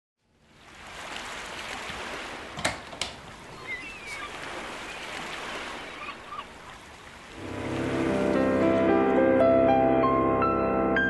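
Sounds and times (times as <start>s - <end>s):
rushing water noise: 0.4s - 10.9s.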